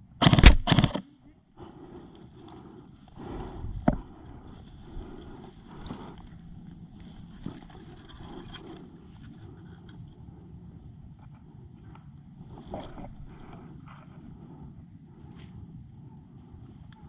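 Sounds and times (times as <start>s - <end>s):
wind noise on microphone: 3.2s - 17.0s.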